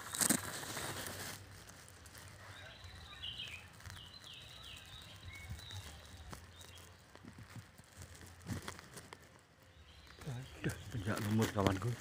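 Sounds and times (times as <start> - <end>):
leaves and branches rustling: 0.0 - 12.0
small bird chirping: 2.0 - 12.0.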